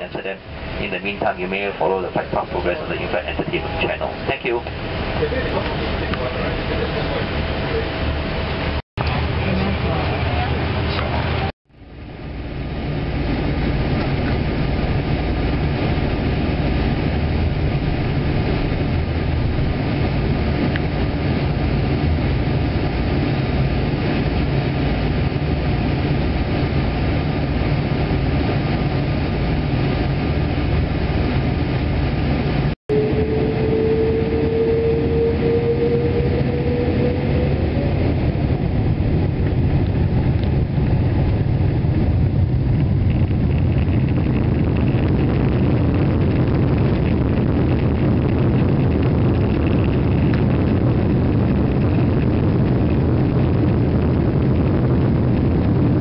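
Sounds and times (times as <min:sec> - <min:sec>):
airplane cabin rumble: 0:00.0 - 0:56.0
jet engines spooling up whine: 0:00.0 - 0:56.0.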